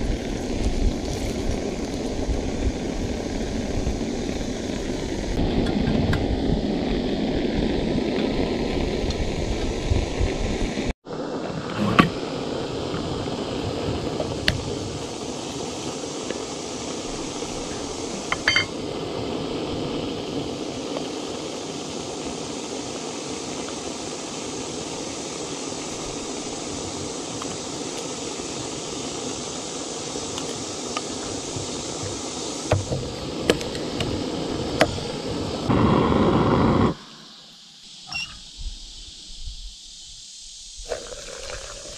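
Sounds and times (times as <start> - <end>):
water boiling: 0.0 - 37.0, 40.7 - 41.9
gas stove hissing: 0.0 - 41.9.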